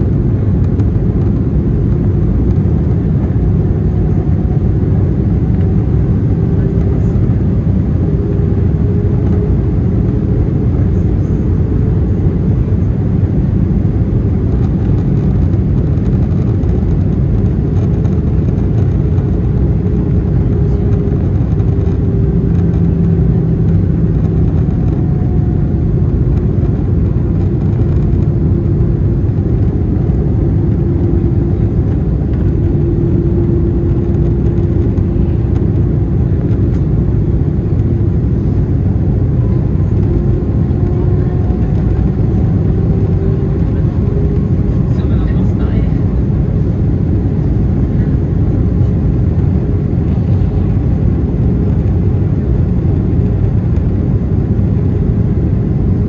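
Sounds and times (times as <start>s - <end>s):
aircraft engine hum: 0.0s - 56.0s.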